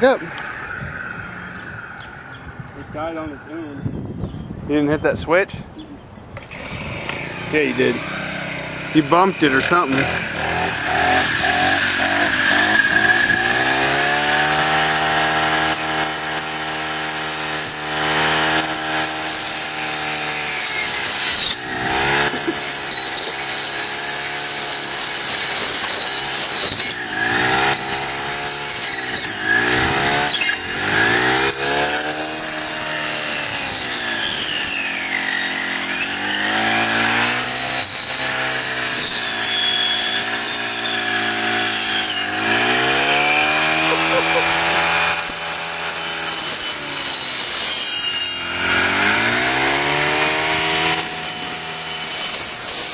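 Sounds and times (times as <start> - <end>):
high whine of saw blade: 0.0 - 3.8, 6.5 - 52.9
string trimmer engine revving: 6.4 - 52.9.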